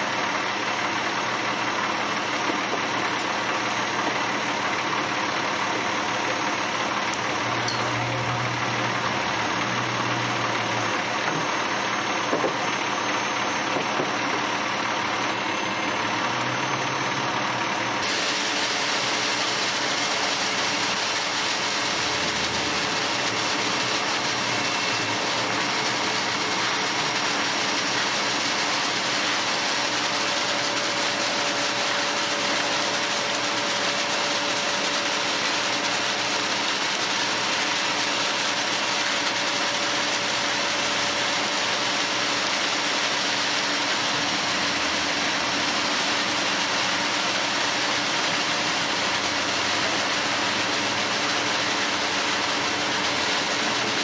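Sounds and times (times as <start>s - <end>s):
concrete mixer truck rumbling: 0.0s - 54.0s.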